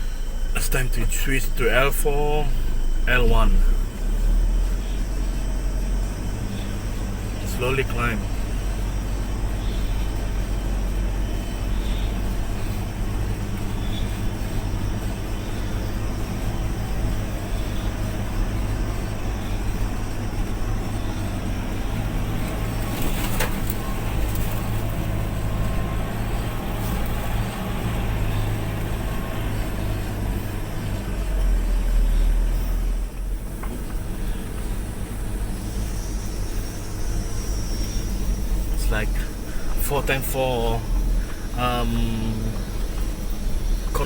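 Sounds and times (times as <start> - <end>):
vehicle engine running at low revs: 0.0 - 44.0.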